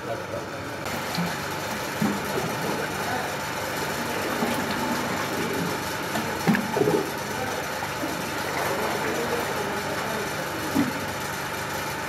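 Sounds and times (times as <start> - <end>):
workshop machinery humming: 0.0 - 12.0.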